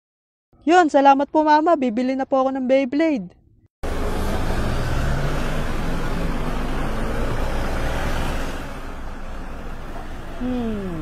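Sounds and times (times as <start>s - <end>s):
street traffic: 0.6s - 11.0s.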